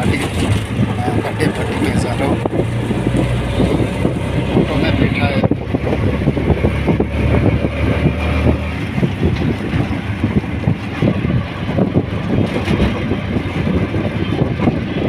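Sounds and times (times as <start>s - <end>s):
small engine rattling: 0.0s - 15.0s.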